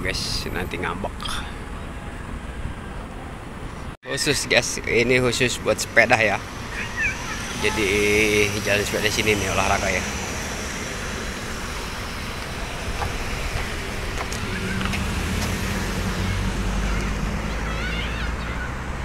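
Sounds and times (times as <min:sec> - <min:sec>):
cars driving past: 0:00.5 - 0:19.0.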